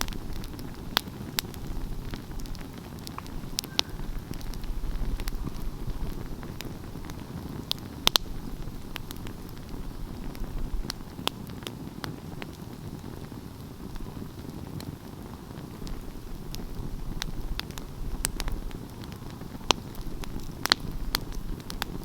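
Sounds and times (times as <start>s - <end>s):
fire crackles and pops: 0.0s - 22.0s
fire low rumble: 0.0s - 22.0s.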